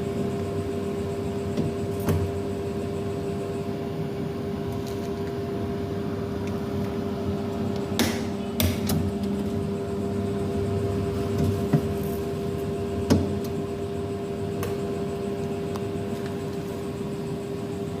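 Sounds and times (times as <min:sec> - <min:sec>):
incubator fan motor humming: 0:00.0 - 0:18.0.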